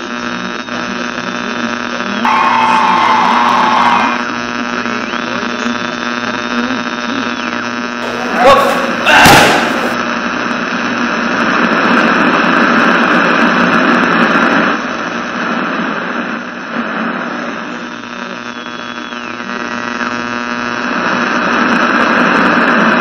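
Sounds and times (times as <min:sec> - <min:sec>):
electronic drone with hiss: 0:00.0 - 0:08.4, 0:09.9 - 0:23.0.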